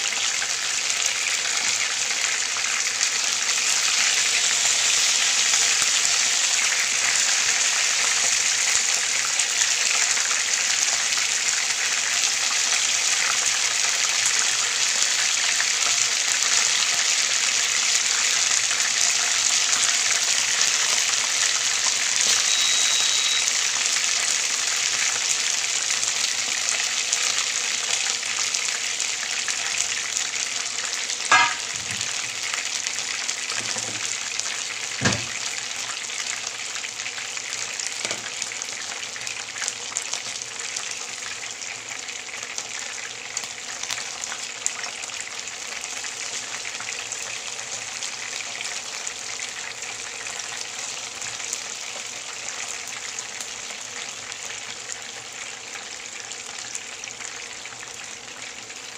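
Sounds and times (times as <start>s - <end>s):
chicken frying in oil: 0.0s - 58.9s.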